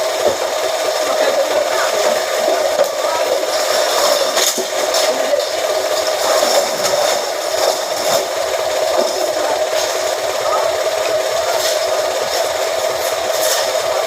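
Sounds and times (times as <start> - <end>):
press machine humming: 0.0 - 14.0.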